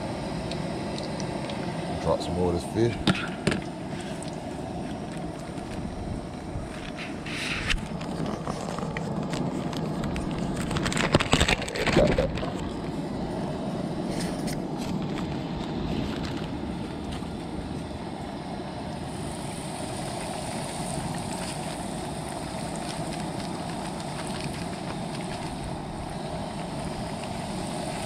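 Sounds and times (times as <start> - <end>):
fish deep-frying in oil: 0.0 - 14.0, 14.7 - 28.0.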